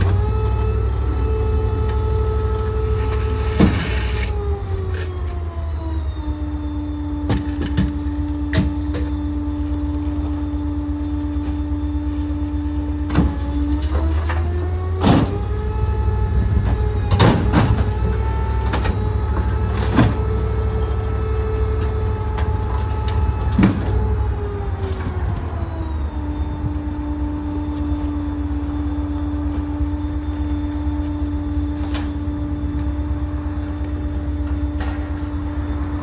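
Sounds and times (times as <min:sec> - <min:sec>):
garbage truck rumble and whine: 0:00.0 - 0:36.0.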